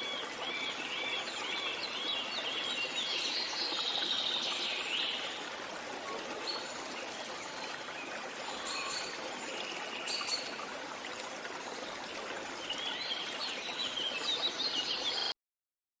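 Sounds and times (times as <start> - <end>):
stream water running: 0.0 - 15.3.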